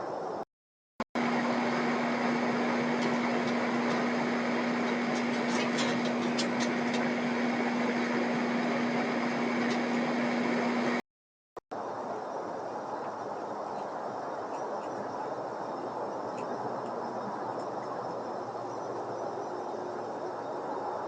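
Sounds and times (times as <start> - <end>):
machine hum with constant tone: 1.2 - 11.0, 11.8 - 21.0.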